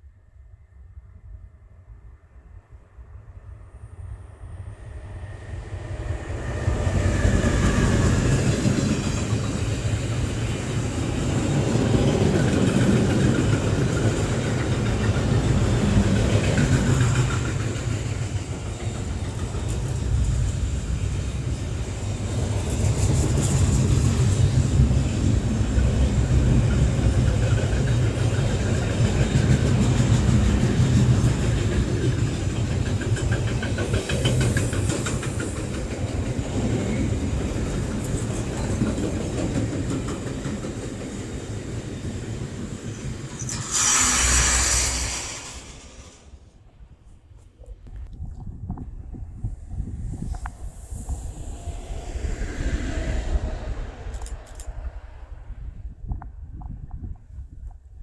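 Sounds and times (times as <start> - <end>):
train wheels rumbling on rails: 3.8 - 58.0.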